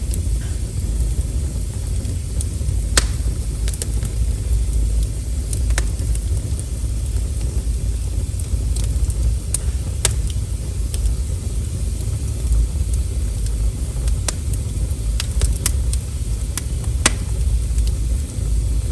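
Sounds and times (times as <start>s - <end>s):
fire crackling and popping: 0.0s - 18.9s
wood fire rumbling: 0.0s - 18.9s.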